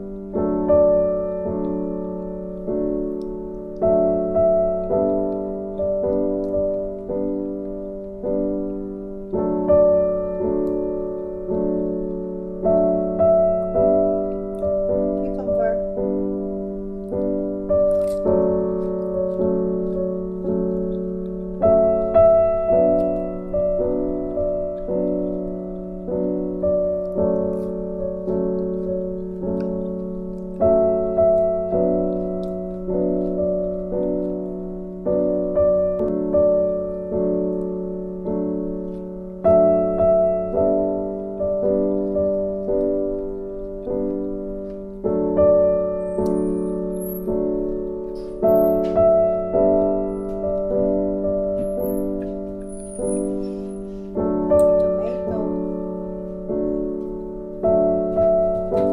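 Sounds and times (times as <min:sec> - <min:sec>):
slow gentle piano melody: 0:00.0 - 0:58.9.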